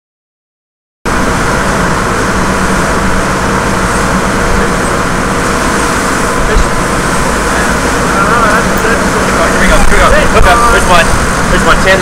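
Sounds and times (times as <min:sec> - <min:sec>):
boat engine drone: 0:01.1 - 0:12.0
rush of churning wake: 0:01.1 - 0:12.0.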